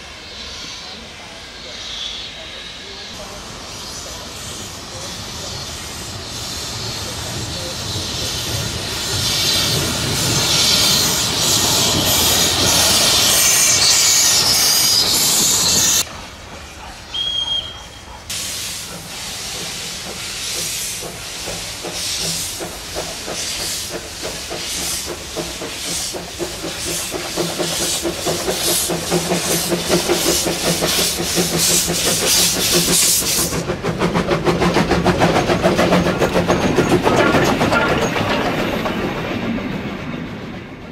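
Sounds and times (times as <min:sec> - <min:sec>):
steam locomotive hissing: 0:00.0 - 0:40.9
steam locomotive rhythmic beat: 0:06.4 - 0:40.0.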